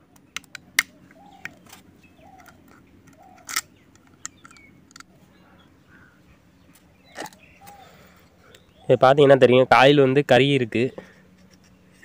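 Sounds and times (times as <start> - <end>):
bird calls: 0.0 - 9.9.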